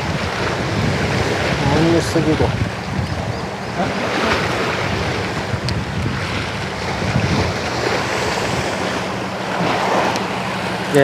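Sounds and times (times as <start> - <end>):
sea waves washing on shore: 0.0 - 11.0
wind on microphone: 0.0 - 11.0.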